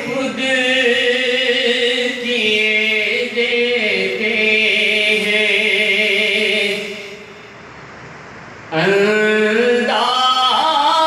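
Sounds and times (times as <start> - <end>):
man chanting into microphone: 0.0 - 7.3, 8.7 - 11.0.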